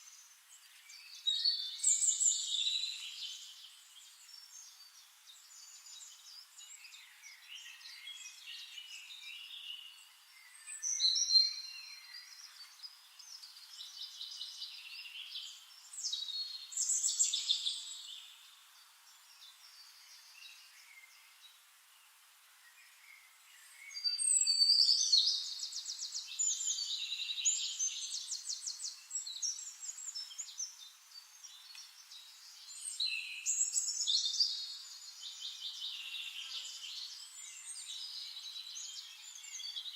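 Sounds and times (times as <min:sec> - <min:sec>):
birds chirping: 0:00.0 - 0:39.9
songbirds singing trills: 0:00.0 - 0:39.9.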